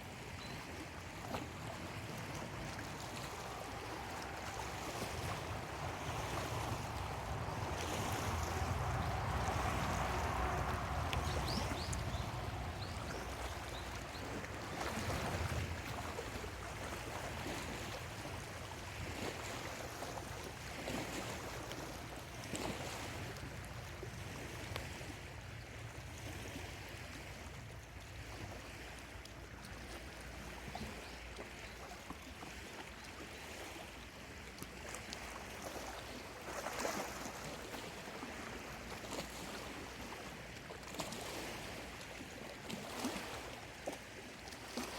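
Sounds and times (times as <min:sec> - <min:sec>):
lake waves lapping at shore: 0:00.0 - 0:44.9.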